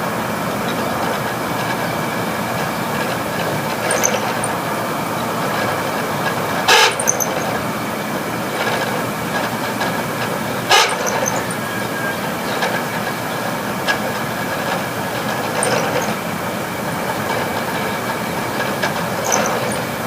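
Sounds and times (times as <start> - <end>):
air conditioner clattering: 0.0 - 20.0.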